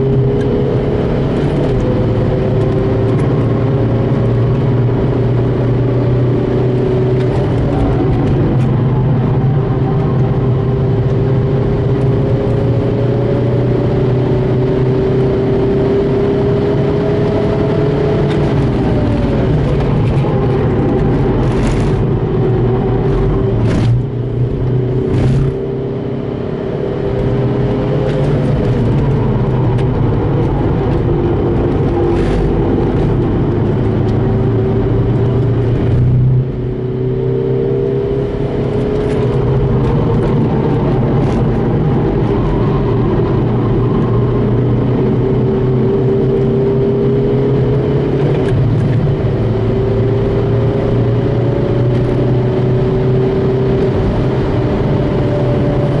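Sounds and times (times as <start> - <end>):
diesel engine revving through gears: 0.0 - 56.0.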